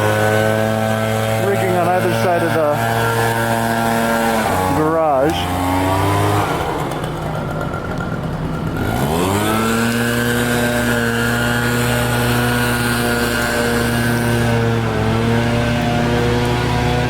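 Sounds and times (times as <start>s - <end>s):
low engine hum: 0.0s - 17.0s
small engine revving: 0.0s - 17.0s.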